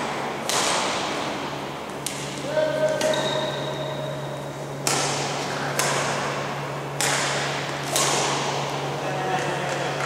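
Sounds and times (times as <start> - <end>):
steady low hum: 0.0 - 10.0
rackets striking shuttlecock: 0.4 - 10.0.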